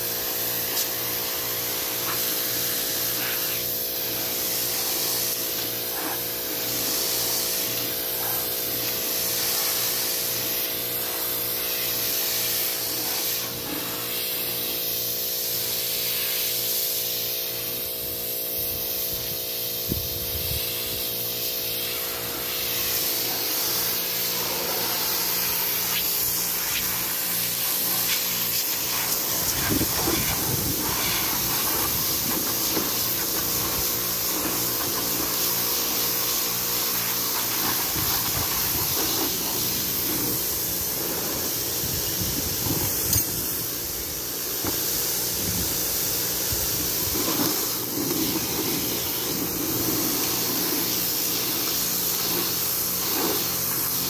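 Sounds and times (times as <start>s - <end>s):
pressure washer humming: 0.0s - 16.4s, 20.6s - 54.0s
pressure washer spray hissing: 0.0s - 54.0s.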